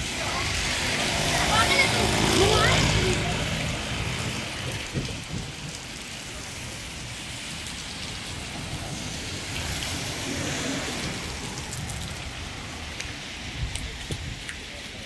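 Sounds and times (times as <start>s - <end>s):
rain on wet street: 0.0s - 15.0s.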